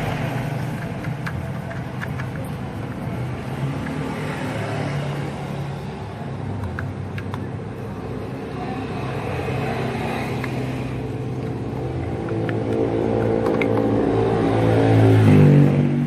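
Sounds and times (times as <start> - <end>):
engine rumble: 0.0 - 16.0.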